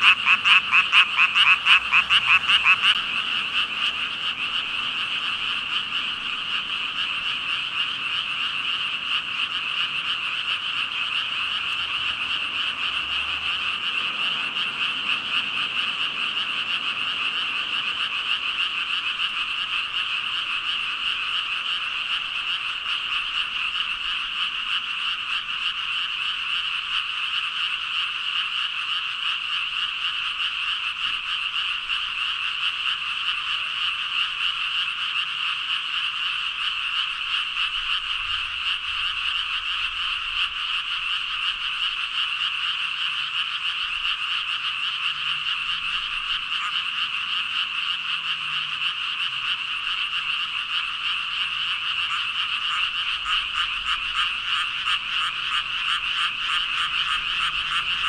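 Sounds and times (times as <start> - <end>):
chorus of frogs croaking: 0.0 - 58.0.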